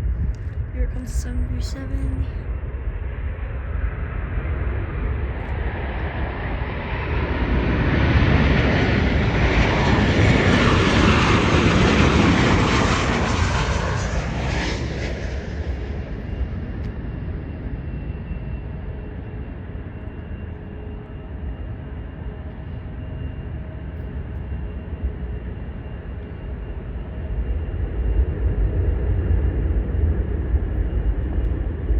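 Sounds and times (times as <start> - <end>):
jet airliner passing: 0.0 - 31.9.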